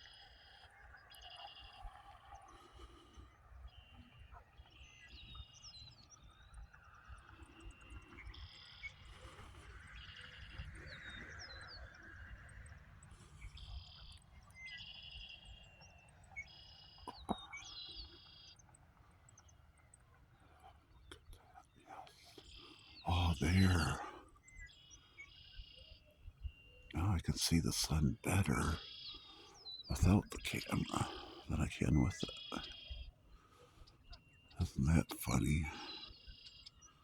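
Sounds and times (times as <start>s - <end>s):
birds trilling and chirping: 0.0s - 37.0s.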